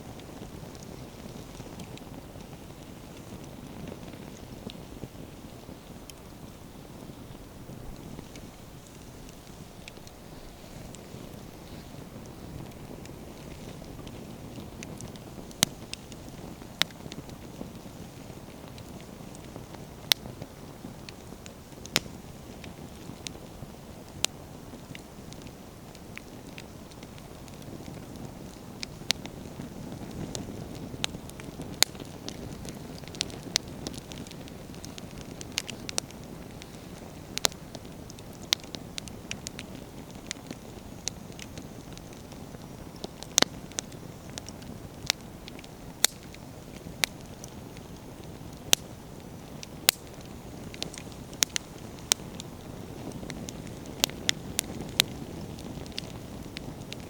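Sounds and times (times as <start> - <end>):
firewood crackling and popping: 0.0 - 57.0
flames rushing: 0.0 - 57.0.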